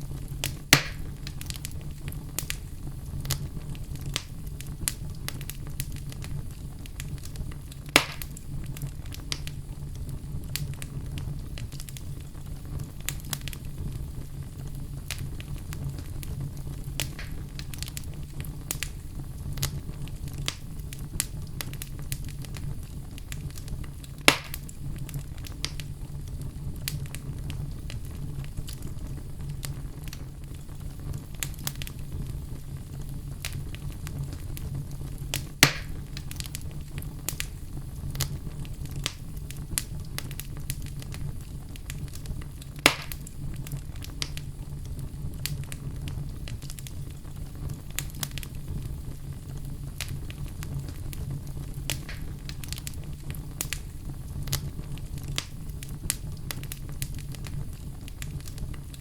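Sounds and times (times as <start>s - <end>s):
fire pops: 0.0s - 59.0s
wood fire crackling: 0.0s - 59.0s.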